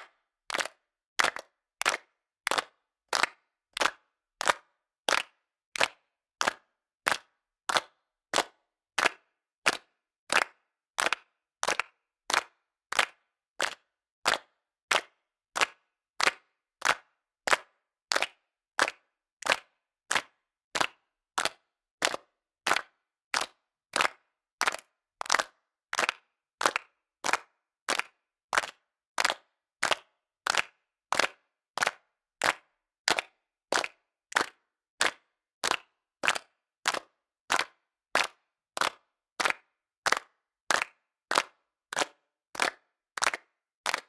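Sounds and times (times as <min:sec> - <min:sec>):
group clapping in unison: 0:00.0 - 0:44.0.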